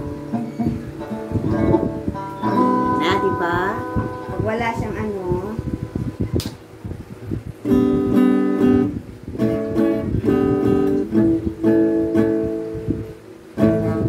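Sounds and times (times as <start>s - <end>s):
amplified acoustic guitar strumming: 0.0s - 14.0s.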